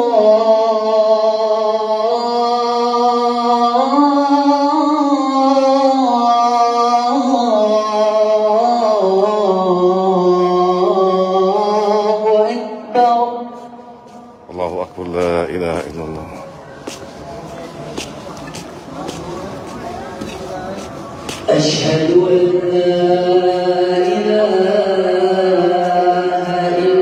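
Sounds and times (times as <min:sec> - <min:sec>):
man singing call to prayer: 0:00.0 - 0:17.0, 0:19.0 - 0:27.0.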